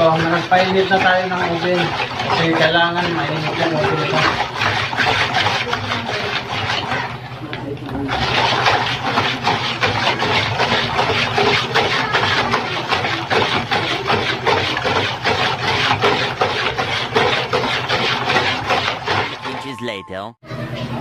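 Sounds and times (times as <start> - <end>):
whisk scraping plastic bowl: 0.0 - 19.6.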